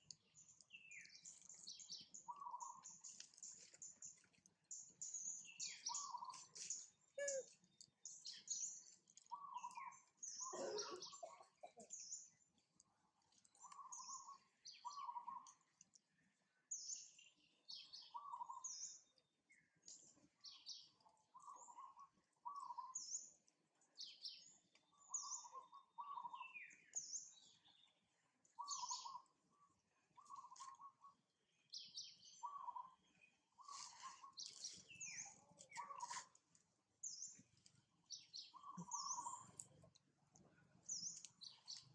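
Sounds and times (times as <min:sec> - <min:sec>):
birds chirping: 0:00.0 - 0:12.6, 0:13.4 - 0:15.9, 0:16.7 - 0:19.2, 0:19.8 - 0:23.4, 0:24.0 - 0:41.9.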